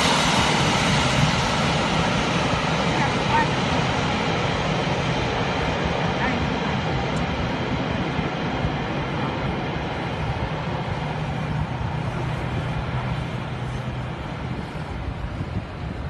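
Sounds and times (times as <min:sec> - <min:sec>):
steady rushing noise: 0:00.0 - 0:16.0
turboprop engines droning: 0:00.0 - 0:16.0.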